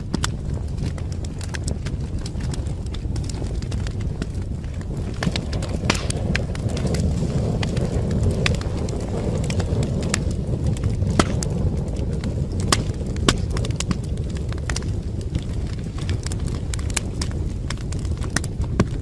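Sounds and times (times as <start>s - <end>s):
burning wood crackling and popping: 0.0s - 19.0s
low roar of flames: 0.0s - 19.0s.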